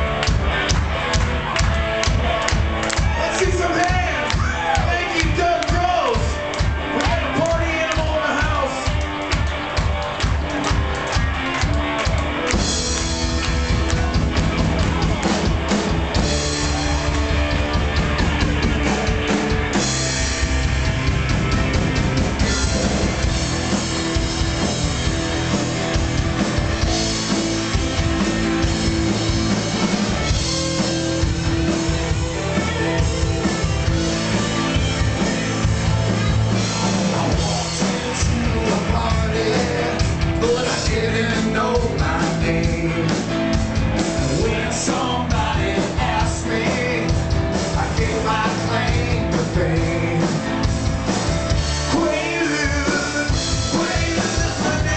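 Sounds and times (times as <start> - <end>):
drum kit: 0.0 - 54.9
electric guitar: 0.0 - 54.9
live rock band playing: 0.0 - 54.9.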